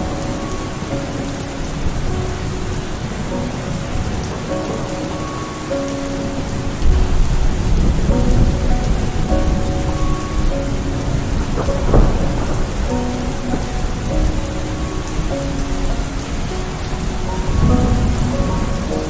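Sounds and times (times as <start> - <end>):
faint tune of held notes: 0.0 - 19.0
heavy rain pouring: 0.0 - 19.0.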